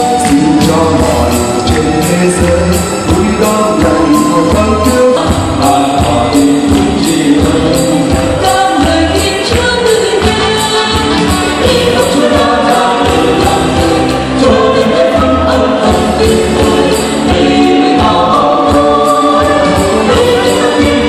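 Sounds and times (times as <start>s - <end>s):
instrumental accompaniment with beat: 0.0s - 21.0s
mixed choir singing: 3.1s - 21.0s.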